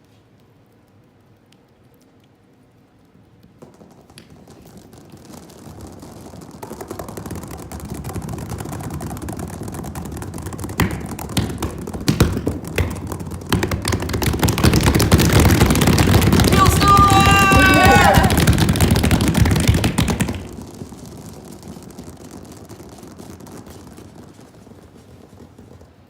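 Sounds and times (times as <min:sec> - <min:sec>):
hands rubbing and pattering: 0:00.0 - 0:26.0.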